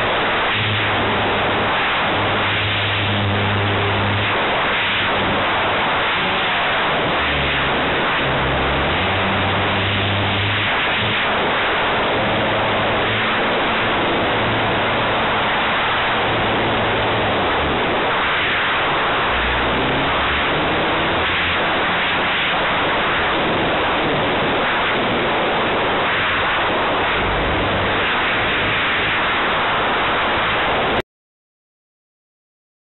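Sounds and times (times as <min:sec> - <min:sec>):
model plane engine roar: 0:00.0 - 0:31.0.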